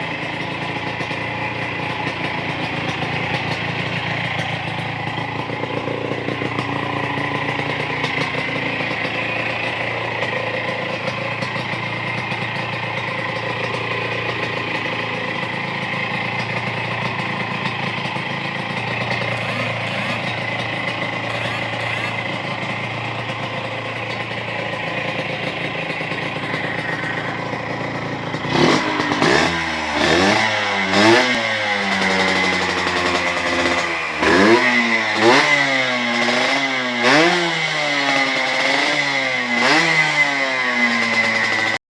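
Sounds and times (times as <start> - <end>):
motorcycle engine idling and revving: 0.0 - 41.8.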